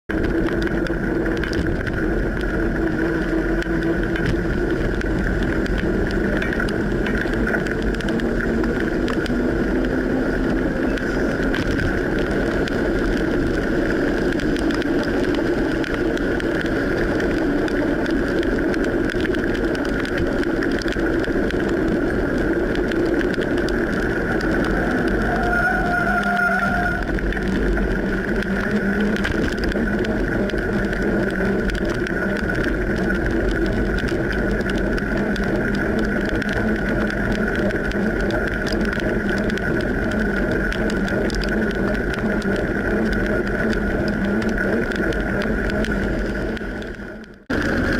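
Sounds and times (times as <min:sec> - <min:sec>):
bicycle tyres on wet road: 0:00.1 - 0:47.9
constant hum: 0:00.1 - 0:47.9.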